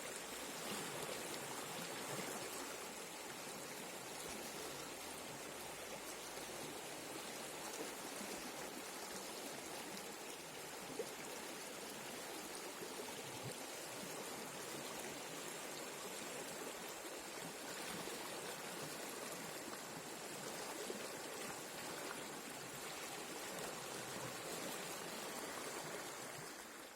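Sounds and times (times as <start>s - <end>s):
river water rushing: 0.0s - 26.9s.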